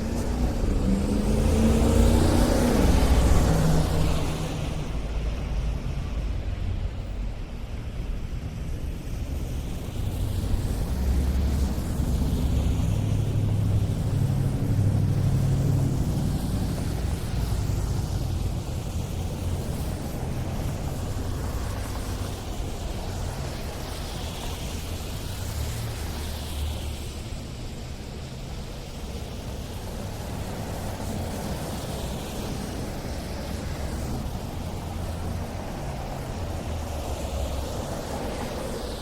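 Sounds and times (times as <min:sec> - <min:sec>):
vehicle engines rumbling: 0:00.0 - 0:39.0
vehicles passing close by: 0:00.0 - 0:39.0.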